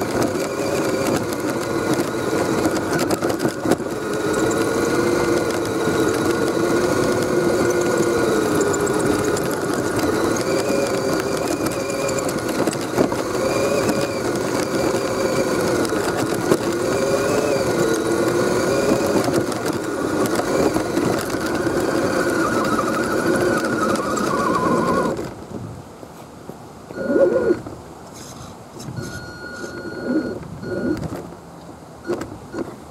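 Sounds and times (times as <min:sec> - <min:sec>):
electric motor whining: 0:00.0 - 0:25.4, 0:26.9 - 0:28.3, 0:29.0 - 0:31.2.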